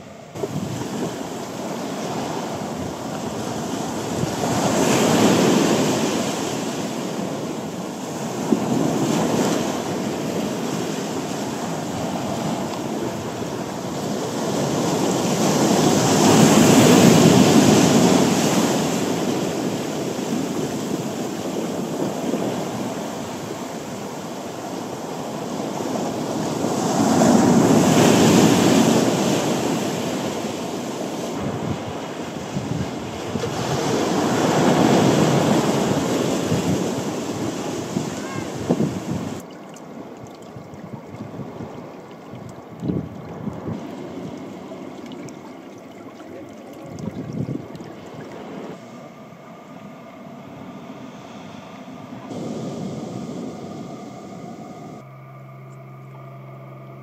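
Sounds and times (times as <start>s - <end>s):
sea waves breaking on beach: 0.0s - 49.1s, 50.6s - 55.0s
wind: 0.0s - 57.0s.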